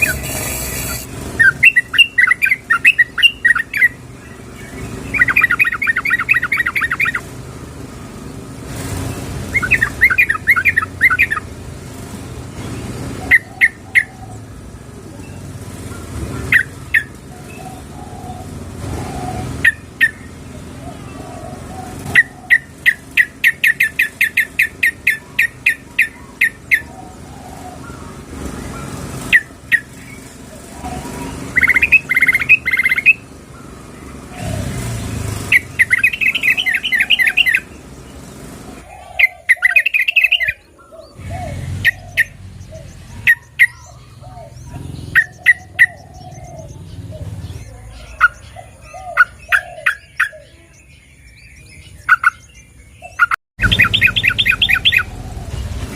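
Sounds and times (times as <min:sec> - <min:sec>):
bird chirping calls: 0:00.0 - 0:55.9.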